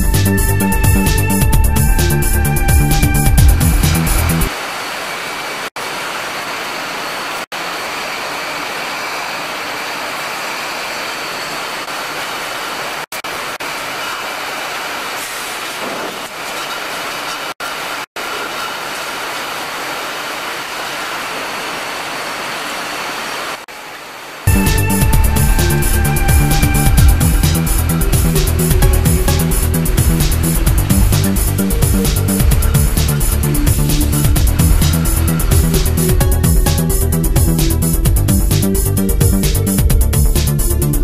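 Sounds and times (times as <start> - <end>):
factory machinery hum: 0.1 - 39.7.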